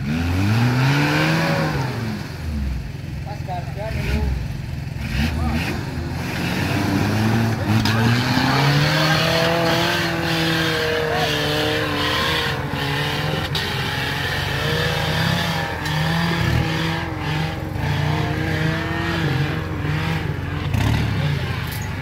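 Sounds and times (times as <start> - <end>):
off-road engine revving: 0.0 - 22.0.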